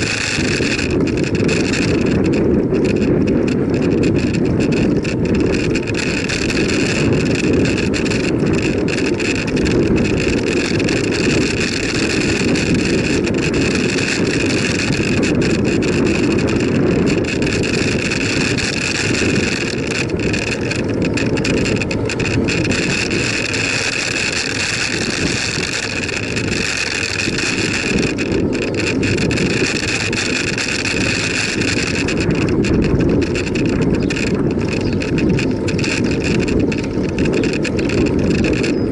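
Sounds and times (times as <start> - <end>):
tyre and road noise: 0.0 - 38.9
wind noise on microphone: 0.0 - 38.9.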